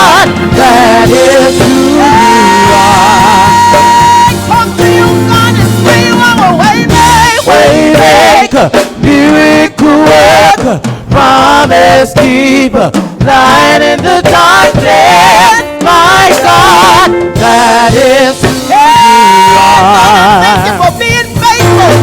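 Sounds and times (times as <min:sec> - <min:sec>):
gospel band with bass and drums: 0:00.0 - 0:22.0.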